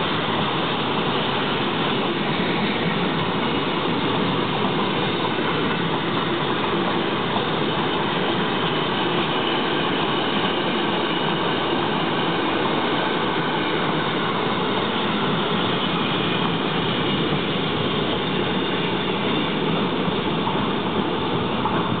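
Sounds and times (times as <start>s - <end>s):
freight train rolling past: 0.0s - 22.0s
steel wheels on rail: 0.0s - 22.0s.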